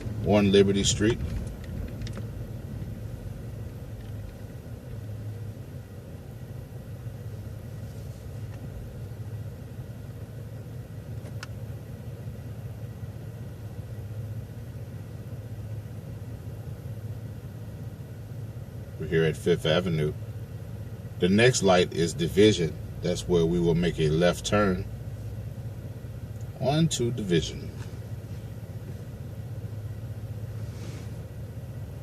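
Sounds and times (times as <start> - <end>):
bus engine and road rumble: 0.0 - 32.0.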